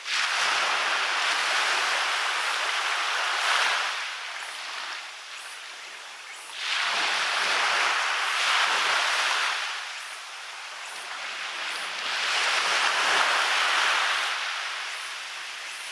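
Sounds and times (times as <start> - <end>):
waves washing onto beach: 0.0 - 15.9.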